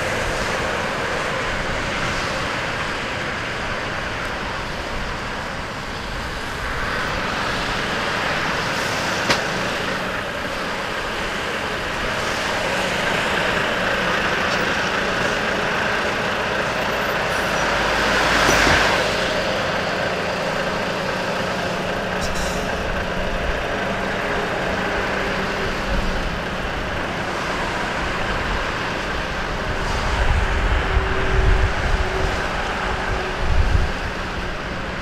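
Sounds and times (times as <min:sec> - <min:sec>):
traffic on wet road: 0:00.0 - 0:35.0.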